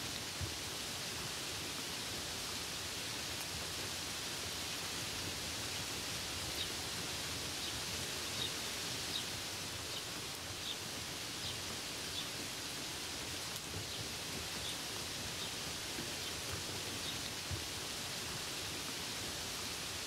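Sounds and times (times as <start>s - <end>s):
rain on leaves: 0.0s - 20.0s.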